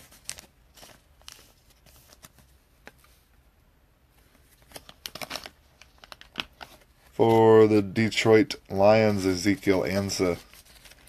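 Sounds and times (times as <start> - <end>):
trading cards rustling: 0.0 - 3.2, 4.2 - 11.0.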